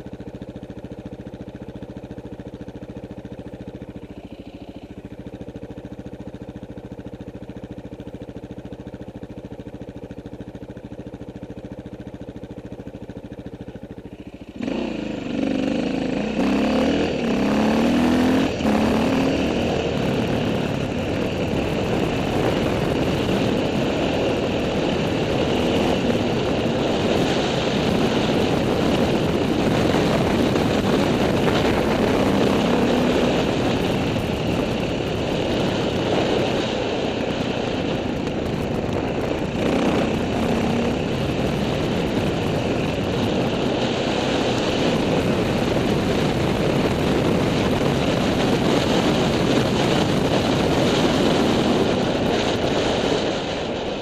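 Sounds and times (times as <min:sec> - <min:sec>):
dirt bike engine: 0:00.0 - 0:54.0
wind and tyre noise: 0:00.0 - 0:54.0.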